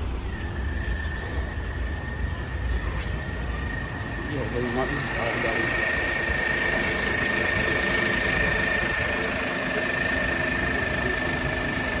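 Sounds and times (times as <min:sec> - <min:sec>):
car engine idling: 0:00.0 - 0:12.0
high whine: 0:00.0 - 0:12.0.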